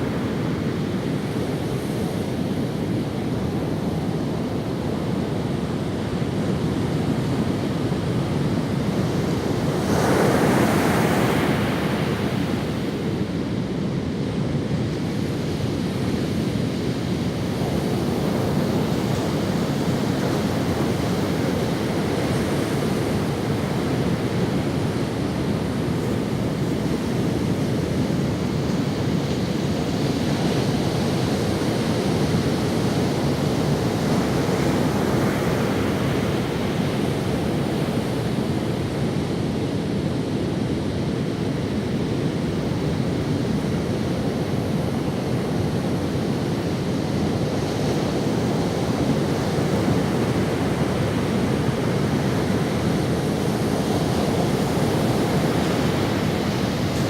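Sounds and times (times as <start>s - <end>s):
ocean waves on sandy beach: 0.0s - 57.0s.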